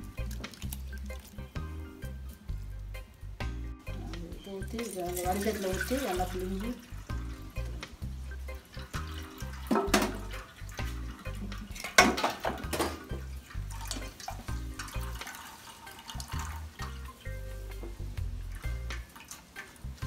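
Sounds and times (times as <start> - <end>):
water splashing through strainer: 0.0 - 2.4, 4.6 - 20.0
background music with steady beat: 0.0 - 20.0.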